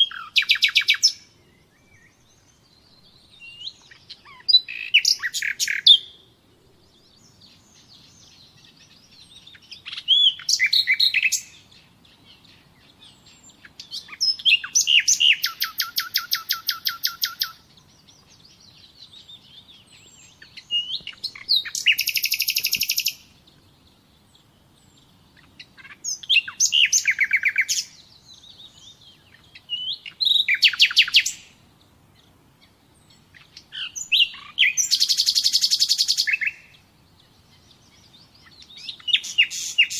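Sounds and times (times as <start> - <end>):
faint bird chirps: 0.0 - 39.9
songbird singing with trills: 0.0 - 39.9.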